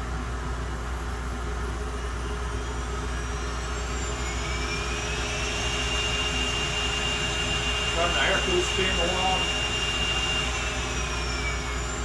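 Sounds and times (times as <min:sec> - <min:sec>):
background machinery hum: 0:00.0 - 0:12.0
spindle whine rising in pitch: 0:01.9 - 0:12.0.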